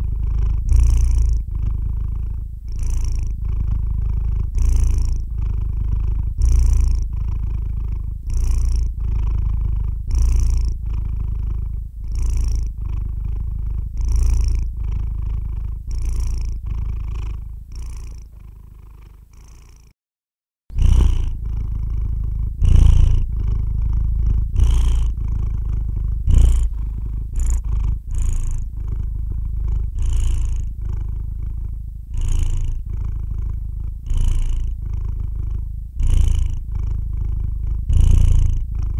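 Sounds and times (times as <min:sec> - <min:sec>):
cat purring: 0:00.0 - 0:20.0, 0:20.7 - 0:38.9.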